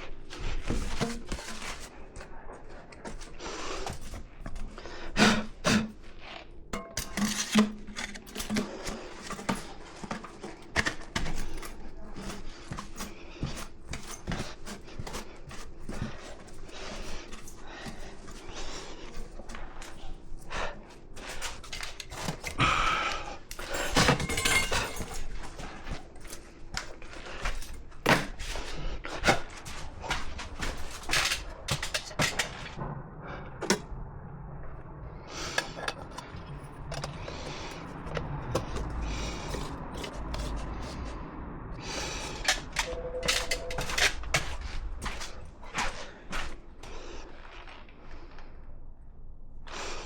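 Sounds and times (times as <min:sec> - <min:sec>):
tools and materials clattering: 0:00.0 - 0:32.8, 0:35.4 - 0:41.2, 0:41.8 - 0:46.5.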